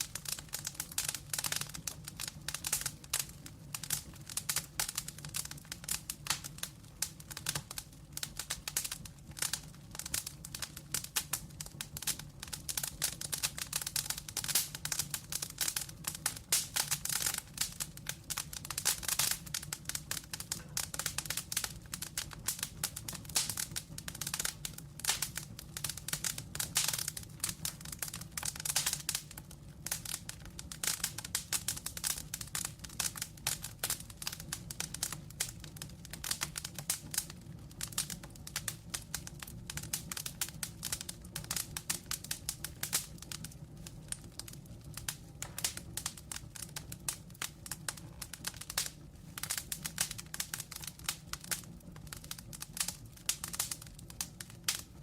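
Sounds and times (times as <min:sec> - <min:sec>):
burning logs crackling: 0:00.0 - 0:55.0
low rumble of flame: 0:00.0 - 0:55.0.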